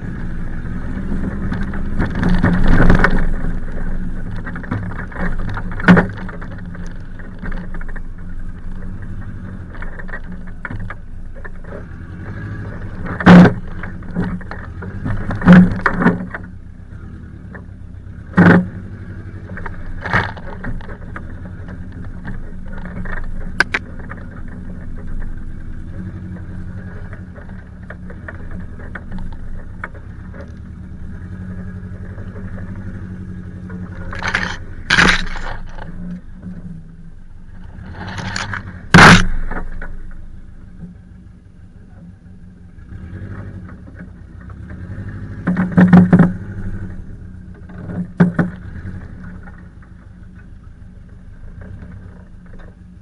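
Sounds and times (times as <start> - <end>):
branches scraping against car: 0.0 - 53.0
car engine at crawling speed: 0.0 - 53.0.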